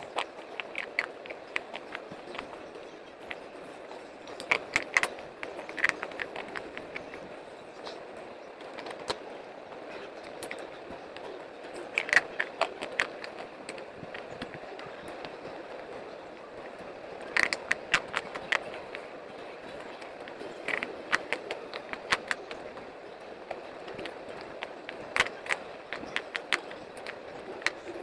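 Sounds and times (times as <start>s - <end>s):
pencils crunched by teeth: 0.0s - 9.3s, 9.9s - 28.0s
quiet chewing: 0.0s - 28.0s
steady background hiss: 0.0s - 28.0s.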